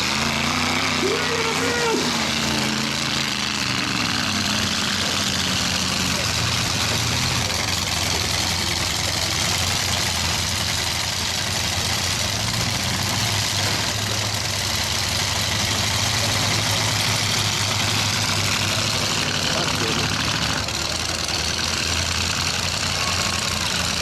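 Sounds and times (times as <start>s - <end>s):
truck engines running: 0.0s - 24.0s.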